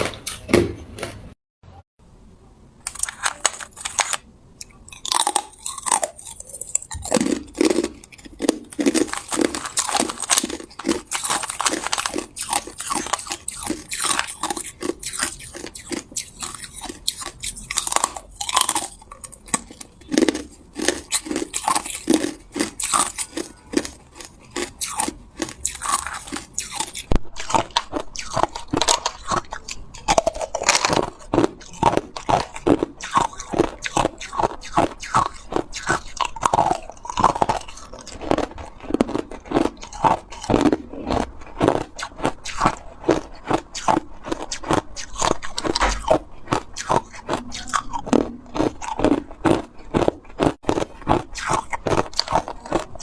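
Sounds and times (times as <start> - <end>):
ice cubes crunching: 2.9 - 53.0.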